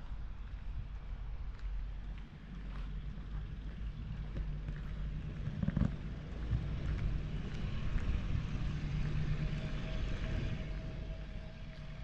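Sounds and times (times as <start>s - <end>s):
road noise: 0.0s - 12.0s
wind rumble on microphone: 0.0s - 12.0s.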